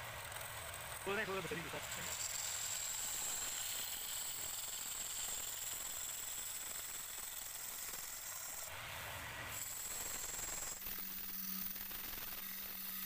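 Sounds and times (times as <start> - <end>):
lathe high whine: 0.0 - 13.0
chisel scraping wood on lathe: 0.2 - 8.7, 9.5 - 13.0.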